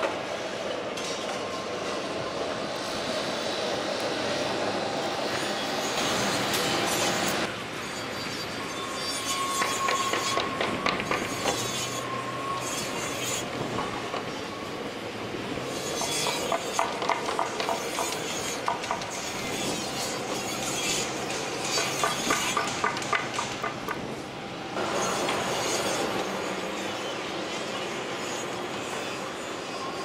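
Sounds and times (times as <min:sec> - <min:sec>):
machinery high squeal: 0:01.4 - 0:23.5, 0:24.6 - 0:30.0.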